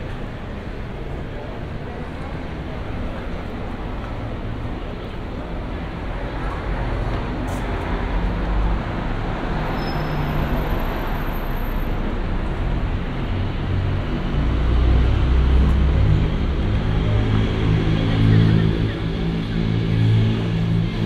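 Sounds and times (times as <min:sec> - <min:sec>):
road noise: 0:00.0 - 0:21.0
vehicle engines passing: 0:00.0 - 0:21.0.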